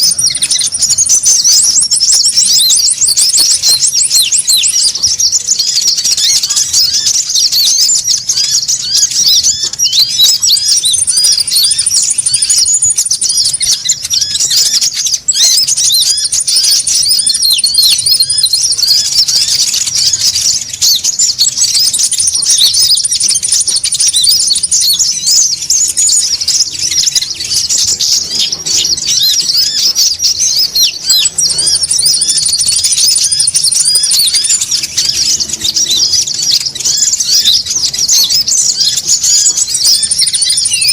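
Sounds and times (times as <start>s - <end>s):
birds chattering in high chirps: 0.0s - 40.9s.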